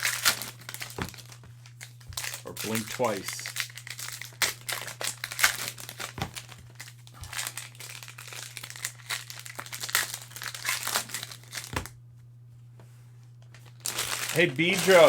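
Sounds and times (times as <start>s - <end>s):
cellophane wrappers crinkling and tearing: 0.0s - 11.9s, 13.5s - 15.0s.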